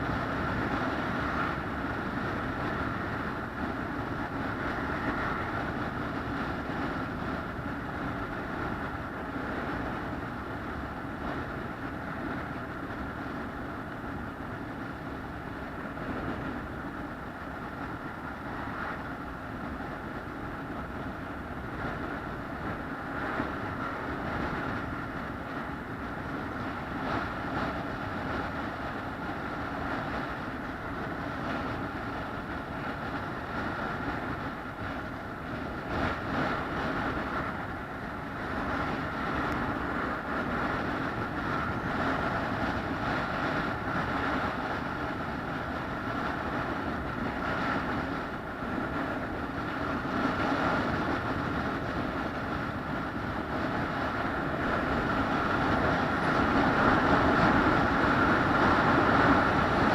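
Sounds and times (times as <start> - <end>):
faint vehicle whine: 0.0 - 59.9
vehicle rumble: 0.0 - 59.9.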